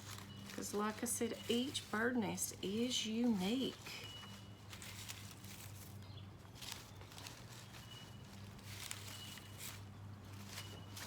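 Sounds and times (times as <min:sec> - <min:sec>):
birds chirping: 0:00.0 - 0:09.8
low electrical hum: 0:00.0 - 0:11.0
newspaper strips rustling and tearing: 0:00.0 - 0:11.0.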